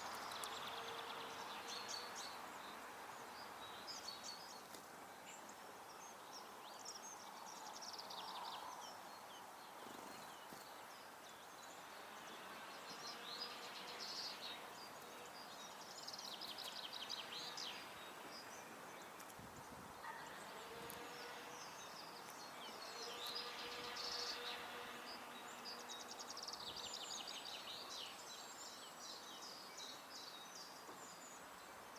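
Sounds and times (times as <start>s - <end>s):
outdoor background hiss: 0.0s - 31.9s
songbirds singing faintly: 0.0s - 31.9s.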